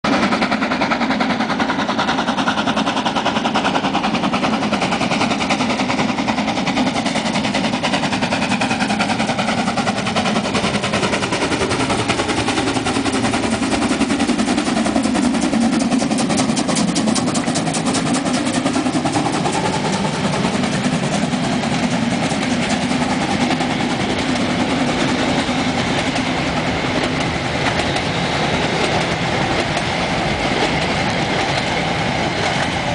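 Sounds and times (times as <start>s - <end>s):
steam locomotive chuffing: 0.0s - 32.9s.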